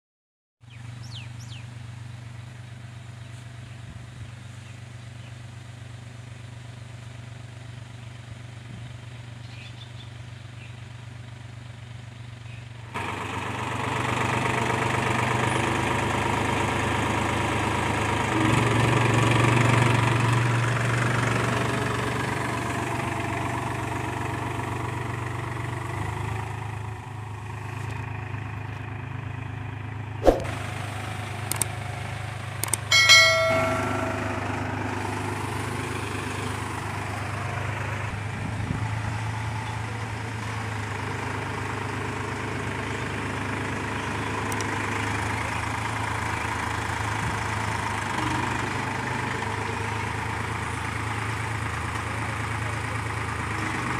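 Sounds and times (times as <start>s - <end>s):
tractor diesel engine running: 0.6s - 53.9s.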